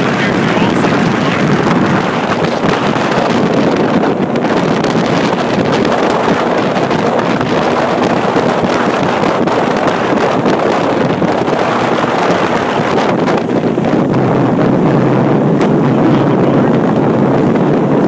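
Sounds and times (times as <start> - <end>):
boat engine: 0.0 - 18.0
hull rushing through water: 0.0 - 18.0
wind buffeting microphone: 0.0 - 18.0.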